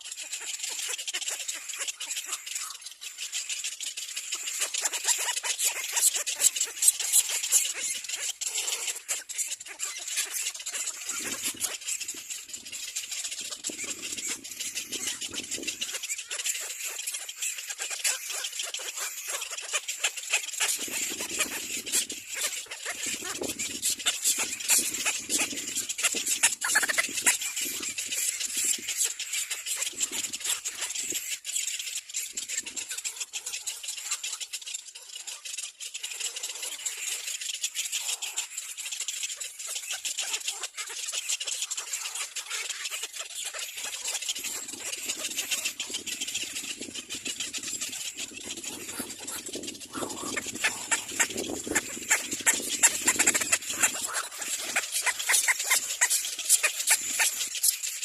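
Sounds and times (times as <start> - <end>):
high-pitched bird chattering: 0.0 - 58.0
nestlings rasping begging calls: 0.0 - 58.0.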